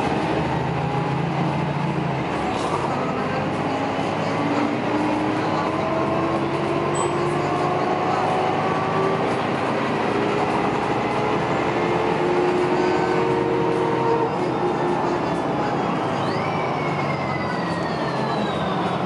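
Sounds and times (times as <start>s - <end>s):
bus engine and road noise: 0.0s - 19.0s
rising drivetrain whine: 0.0s - 19.0s.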